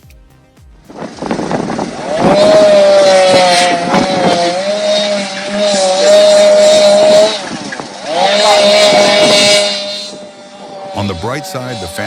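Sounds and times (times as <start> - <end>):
chainsaw revving: 0.8 - 12.0.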